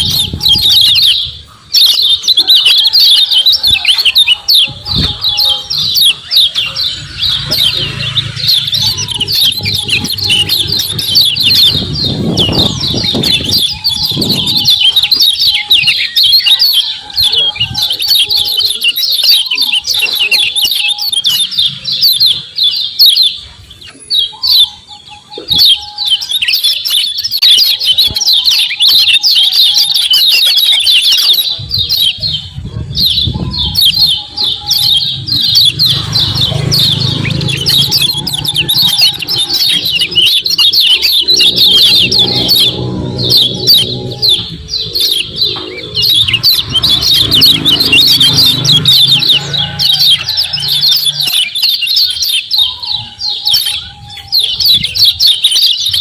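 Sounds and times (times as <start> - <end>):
bird chirping and trilling: 0.0 - 56.0.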